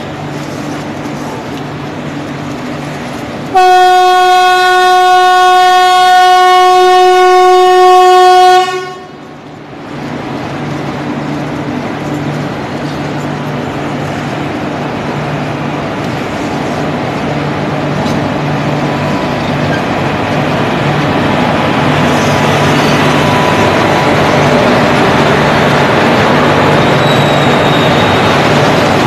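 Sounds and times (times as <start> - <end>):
electric locomotive hum: 0.0 - 29.0
train wheels rumbling on rails: 0.0 - 29.0.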